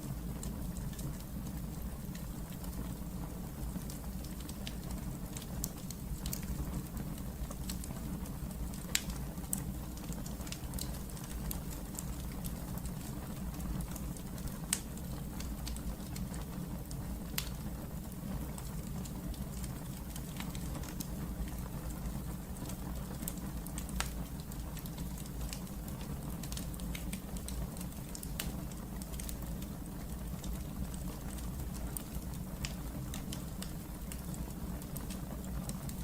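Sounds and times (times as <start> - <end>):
low rumble of flame: 0.0 - 36.0
wood fire crackling and popping: 0.0 - 36.0.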